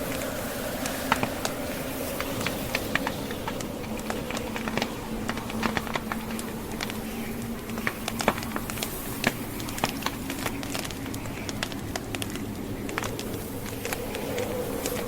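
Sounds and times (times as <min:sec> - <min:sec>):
log fire crackling: 0:00.0 - 0:15.0
rushing blizzard wind: 0:00.0 - 0:15.0
sharp pops and snaps of fire: 0:00.0 - 0:15.0.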